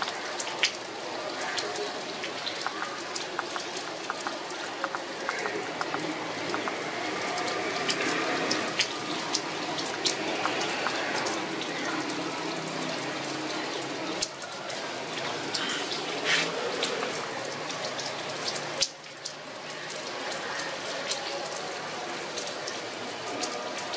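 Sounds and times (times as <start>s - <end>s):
raindrops ticking on surfaces: 0.0s - 23.9s
steady rain falling: 0.0s - 23.9s.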